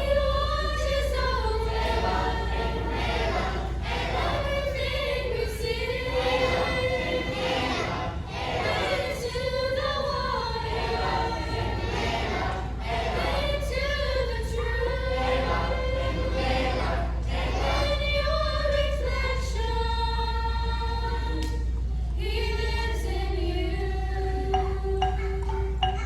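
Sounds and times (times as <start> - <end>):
children's choir singing: 0.0 - 21.6, 22.2 - 26.0.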